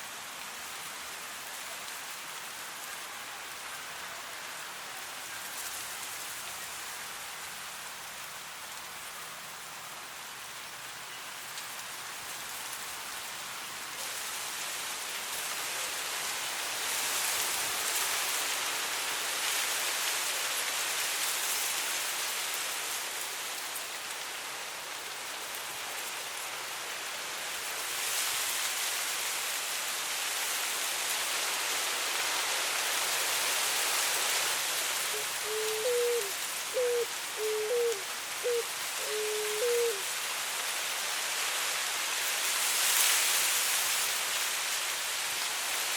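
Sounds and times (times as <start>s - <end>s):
wind rustling through grass: 0.0s - 45.9s.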